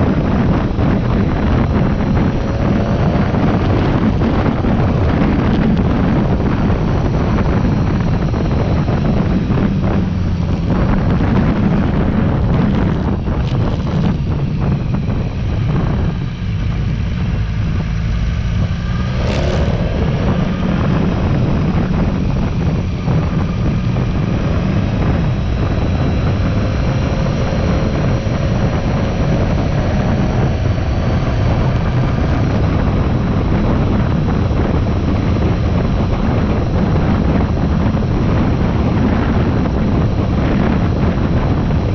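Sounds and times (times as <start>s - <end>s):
motorcycle engine running: 0.0s - 41.9s
wind rushing over camera: 0.0s - 41.9s.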